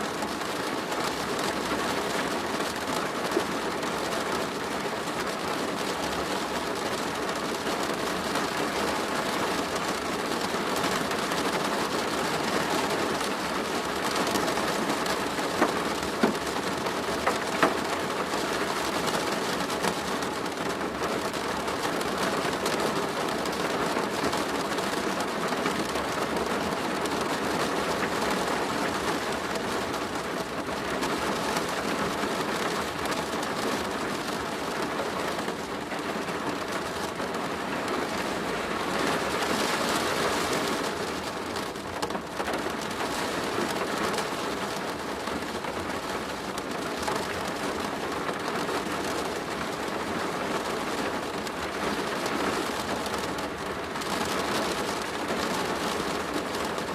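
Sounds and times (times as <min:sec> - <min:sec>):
heavy rain on plastic roof: 0:00.0 - 0:56.9.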